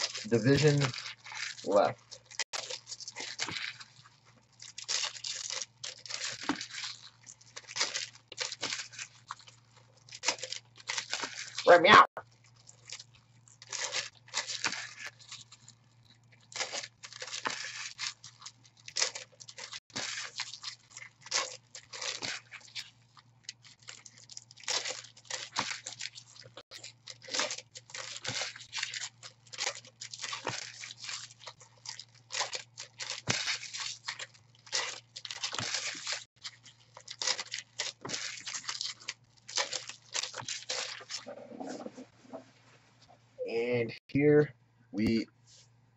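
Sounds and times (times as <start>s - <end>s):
card wrappers tearing and crinkling: 0.0s - 42.1s.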